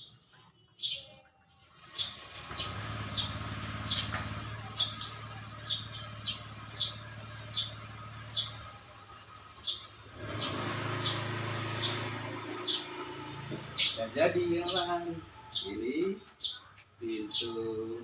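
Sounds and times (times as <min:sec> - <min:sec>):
small bird chirping: 0:00.0 - 0:18.0.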